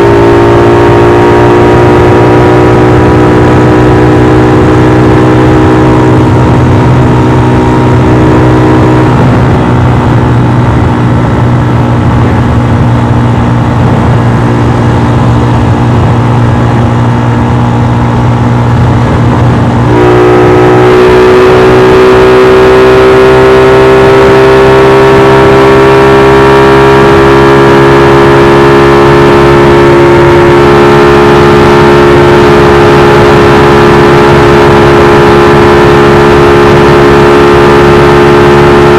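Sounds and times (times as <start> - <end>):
motorcycle engine revving hard: 0.0 - 38.9.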